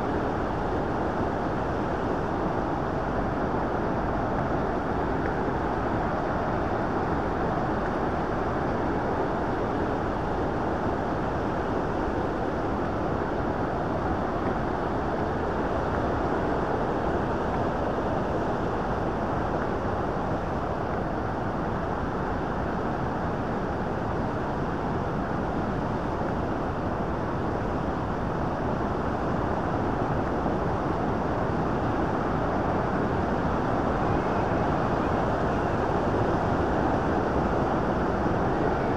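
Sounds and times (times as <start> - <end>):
fast-flowing river rushing: 0.0 - 38.9.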